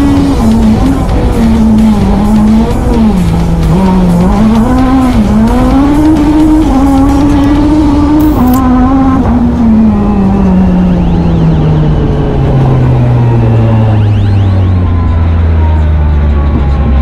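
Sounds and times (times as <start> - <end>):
rally car engine from inside: 0.0 - 17.0
road noise: 0.0 - 17.0.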